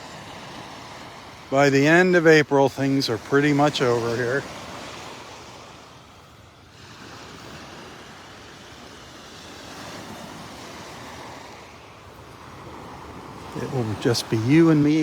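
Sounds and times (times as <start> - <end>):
waves washing onto beach: 0.0 - 15.0.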